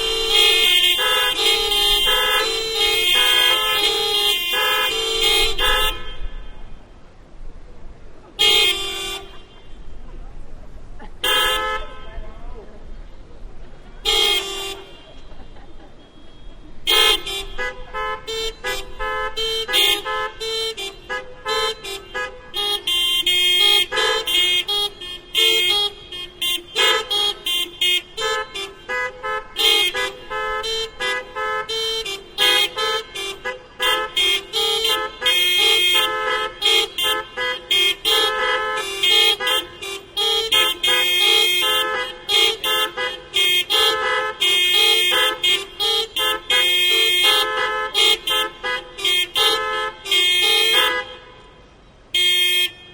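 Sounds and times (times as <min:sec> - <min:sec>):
car horns honking rhythmically: 0:00.0 - 0:52.9.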